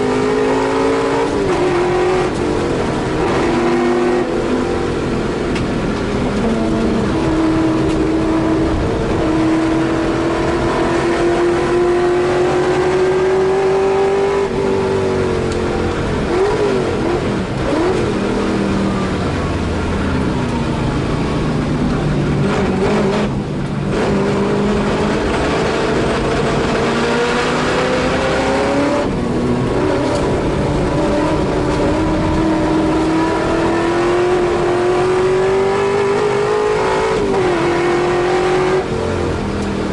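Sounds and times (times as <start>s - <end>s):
racing car engine at full load: 0.0s - 39.9s.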